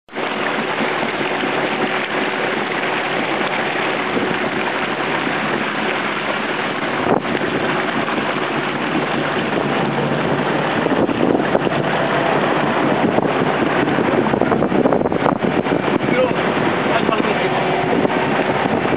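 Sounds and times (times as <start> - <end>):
boat engine hum: 0.1 - 18.9
water splashing along hull: 0.1 - 18.9
wind on microphone: 0.1 - 18.9.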